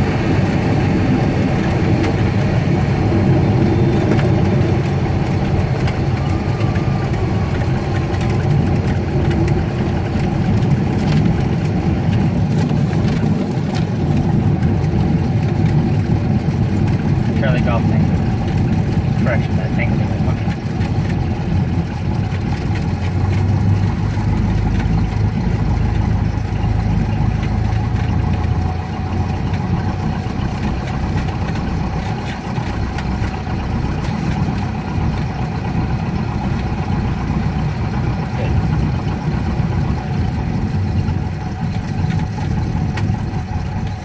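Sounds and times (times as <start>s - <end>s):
light aircraft engine drone: 0.0s - 44.0s.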